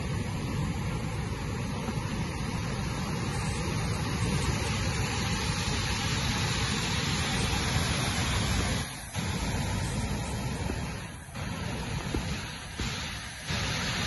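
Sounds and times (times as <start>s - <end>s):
gale wind buffeting microphone: 0.0s - 14.0s
rough surging sea: 0.0s - 14.0s.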